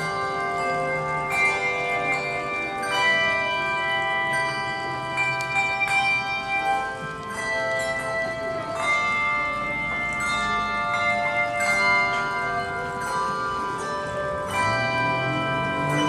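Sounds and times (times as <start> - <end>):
handbell choir ringing chords: 0.0 - 16.0.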